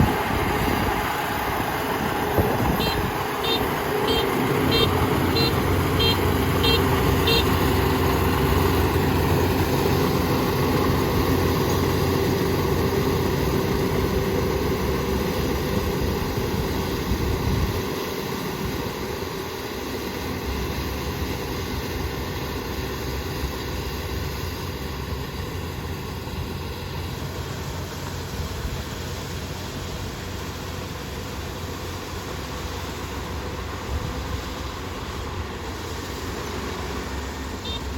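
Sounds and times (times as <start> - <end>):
combine harvester diesel hum: 0.0 - 37.9.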